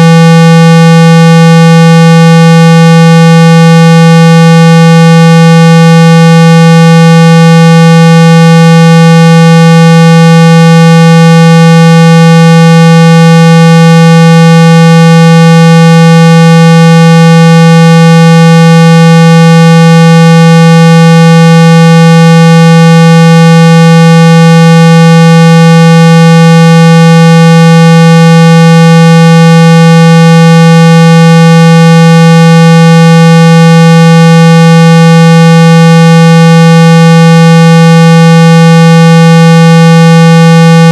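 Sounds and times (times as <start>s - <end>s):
loud steady tone: 0.0s - 40.9s.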